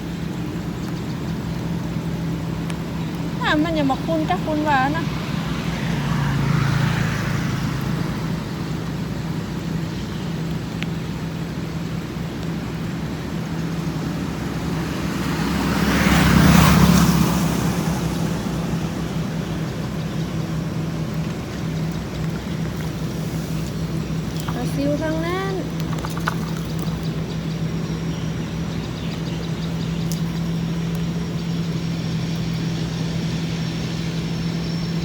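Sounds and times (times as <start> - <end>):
low engine hum: 0.0 - 35.0
motor vehicle passing: 0.0 - 35.0.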